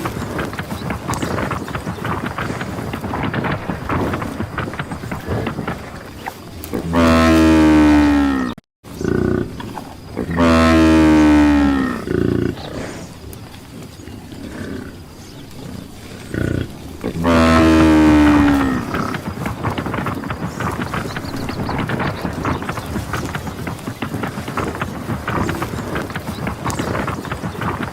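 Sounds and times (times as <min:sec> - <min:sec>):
steady background noise: 0:00.0 - 0:08.0, 0:08.9 - 0:27.9
buffalo lowing: 0:00.0 - 0:27.9.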